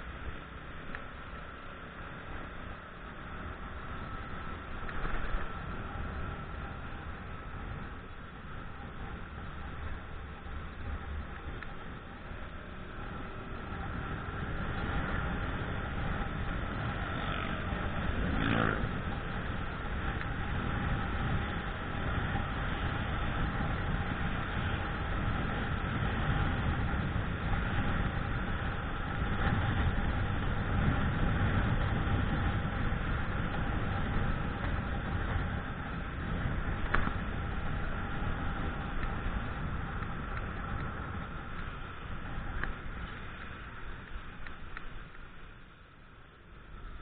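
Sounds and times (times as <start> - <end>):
motorcycle engine running: 0.0 - 45.6
wind rumble on microphone: 0.0 - 47.0.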